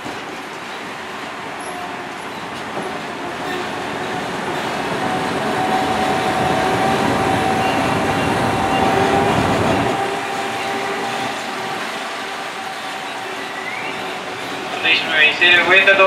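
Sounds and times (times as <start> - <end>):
tram rumble: 0.0 - 16.0.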